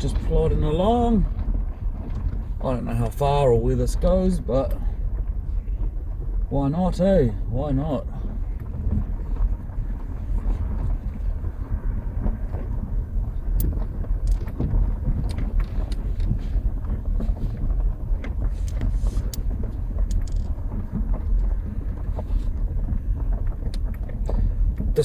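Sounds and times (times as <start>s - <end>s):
car rumbling: 0.0s - 25.0s
wheels knocking and crunching: 0.0s - 25.0s
wind buffeting: 0.0s - 25.0s.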